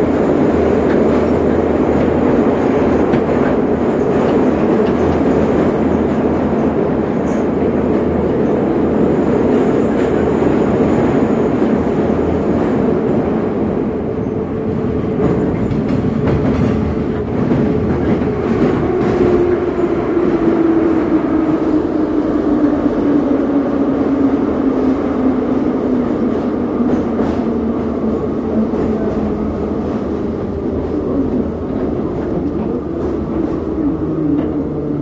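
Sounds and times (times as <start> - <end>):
train wheels and motors rumbling: 0.0 - 35.0.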